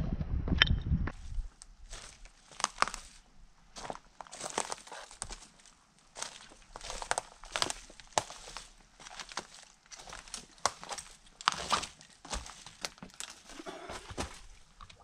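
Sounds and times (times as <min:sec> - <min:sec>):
footsteps crunching on dry leaves: 0:01.2 - 0:14.7.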